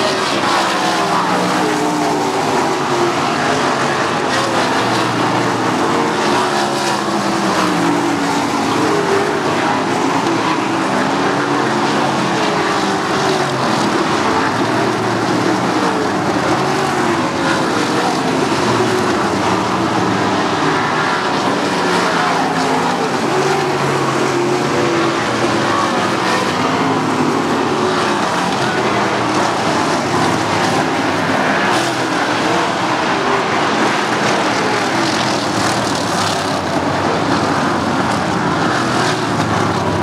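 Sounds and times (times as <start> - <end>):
race car engines droning: 0.0 - 40.0.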